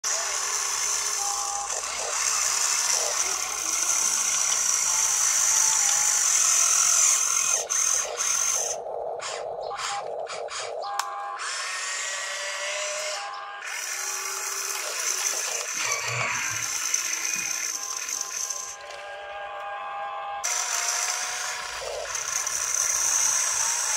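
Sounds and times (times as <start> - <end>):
electric motors whining: 0.0 - 23.9.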